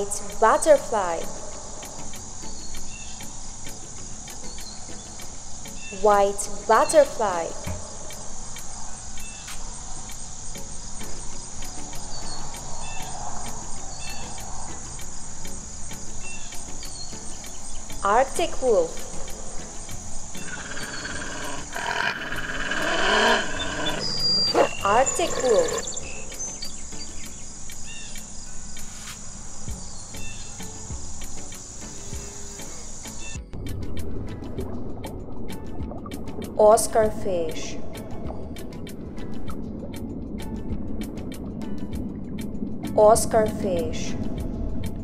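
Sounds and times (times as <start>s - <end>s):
insects chirping: 0.0s - 45.0s.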